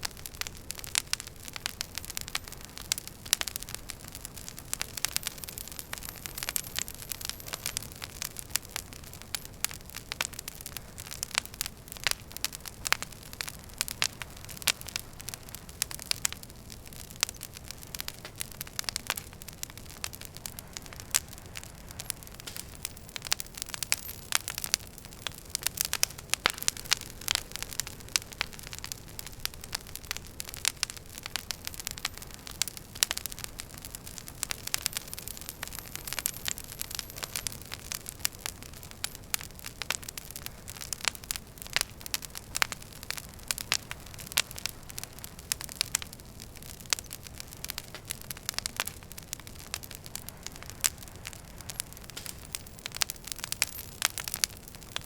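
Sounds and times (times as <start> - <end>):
soft hiss of fire: 0.0 - 55.0
wood fire crackling: 0.0 - 55.0.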